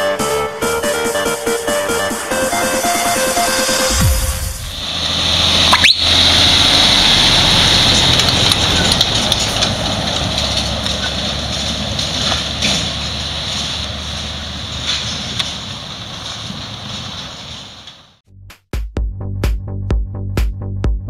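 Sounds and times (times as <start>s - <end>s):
truck diesel engine passing: 0.0s - 18.2s.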